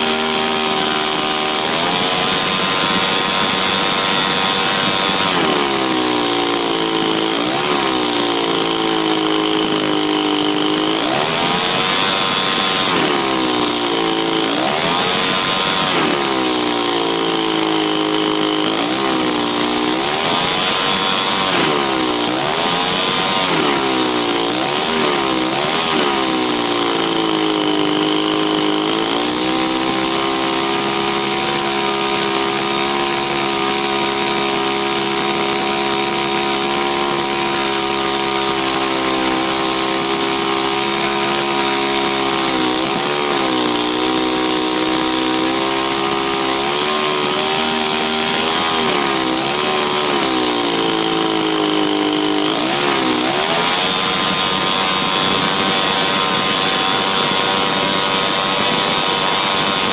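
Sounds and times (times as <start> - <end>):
model aircraft engine revving: 0.0 - 59.9.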